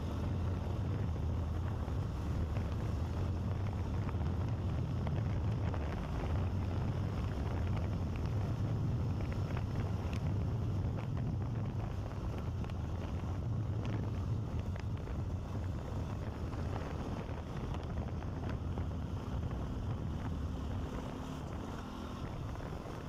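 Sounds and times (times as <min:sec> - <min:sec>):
wind buffeting the microphone: 0:00.0 - 0:23.0.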